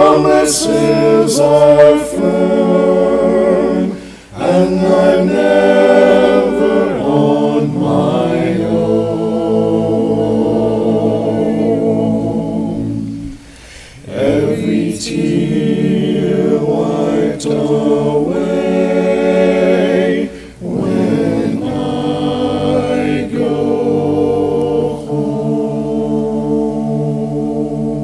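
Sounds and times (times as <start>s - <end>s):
a cappella hymn singing: 0.0s - 28.0s.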